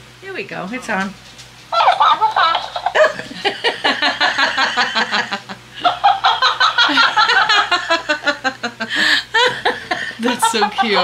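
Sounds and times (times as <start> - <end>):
people laughing: 1.8 - 11.0.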